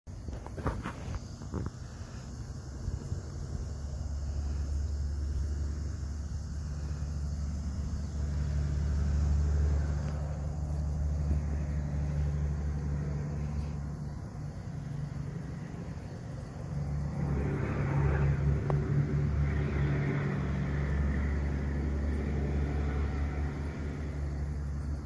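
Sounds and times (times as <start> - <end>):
low mechanical hum: 0.1 - 25.0.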